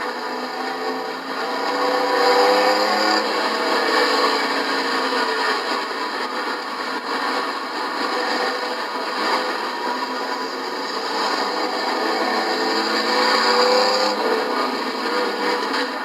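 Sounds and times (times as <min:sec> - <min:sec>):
race truck engines running hard: 0:00.0 - 0:16.0.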